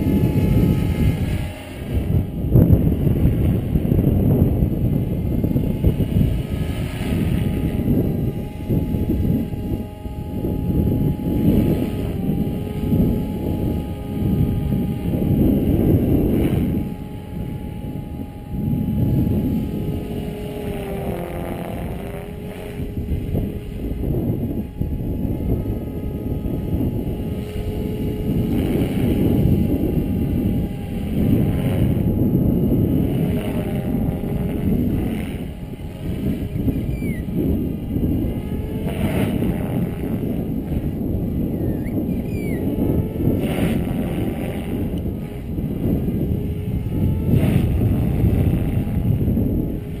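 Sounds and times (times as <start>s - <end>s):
rc helicopter rotor whine: 0.0s - 50.0s
wind on microphone: 0.0s - 50.0s.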